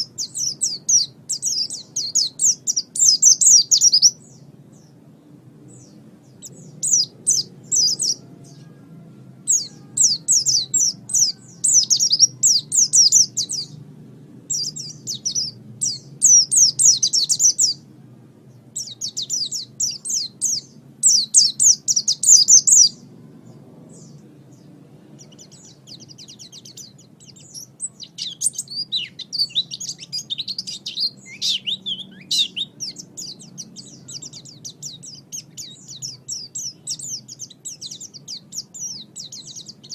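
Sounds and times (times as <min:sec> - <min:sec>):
bird twittering song: 0:00.0 - 0:17.9, 0:18.5 - 0:39.9.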